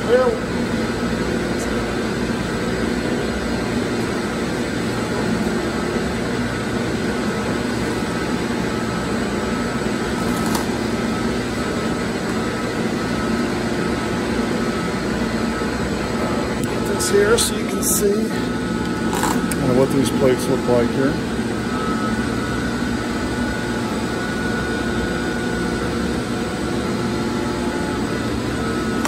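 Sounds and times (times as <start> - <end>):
air compressors humming: 0.0 - 29.0
machinery drone: 0.0 - 29.0.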